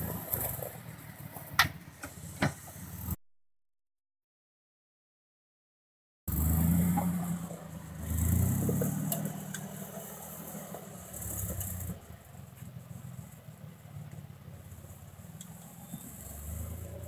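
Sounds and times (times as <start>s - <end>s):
car engine revving and running: 0.0s - 3.2s, 6.3s - 17.0s.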